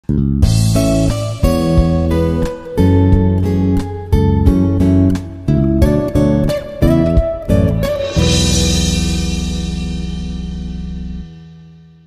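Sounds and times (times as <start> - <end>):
strummed acoustic guitar: 0.4 - 12.0.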